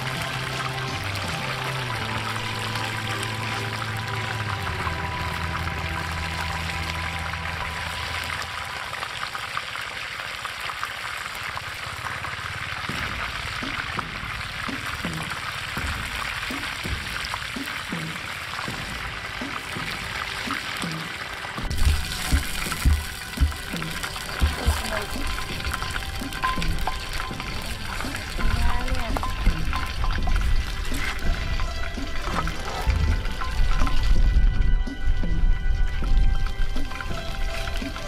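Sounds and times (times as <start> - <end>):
chicken deep-frying in oil: 0.0 - 38.0.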